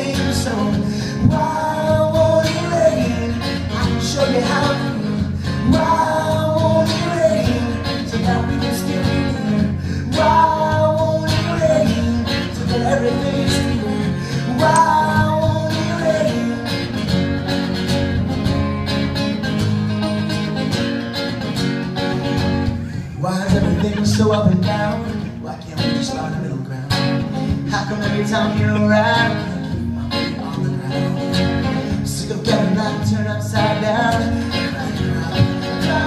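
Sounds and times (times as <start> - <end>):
man singing: 0.0 - 17.3, 22.8 - 36.0
acoustic guitar strumming: 0.0 - 36.0.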